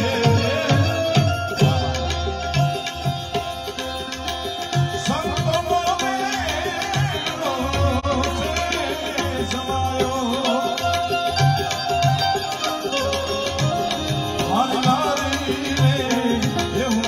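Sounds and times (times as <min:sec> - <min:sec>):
man singing: 0:00.0 - 0:04.0, 0:04.6 - 0:17.0
harmonium: 0:00.0 - 0:17.0
tabla beat: 0:00.0 - 0:17.0.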